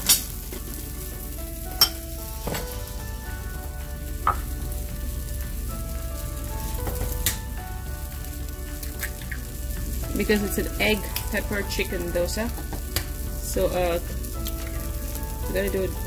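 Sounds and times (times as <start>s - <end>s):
dosa sizzling in oil: 0.0s - 16.0s.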